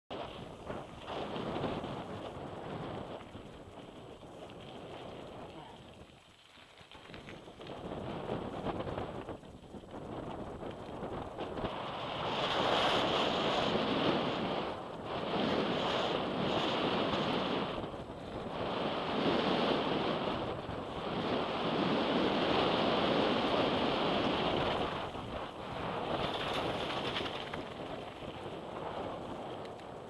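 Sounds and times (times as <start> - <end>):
wind rushing over microphone: 0.1 - 6.1, 7.2 - 30.0
bike tyres rolling on gravel: 0.1 - 30.0.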